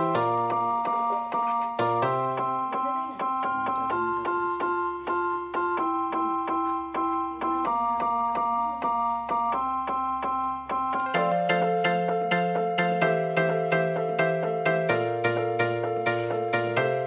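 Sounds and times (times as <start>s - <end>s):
piano-like keyboard music: 0.0s - 17.0s.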